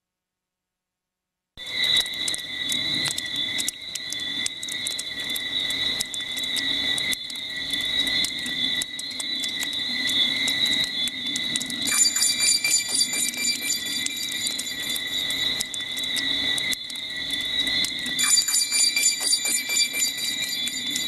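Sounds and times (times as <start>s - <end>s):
insect clicks: 1.6s - 21.0s
insects trilling: 1.6s - 21.0s.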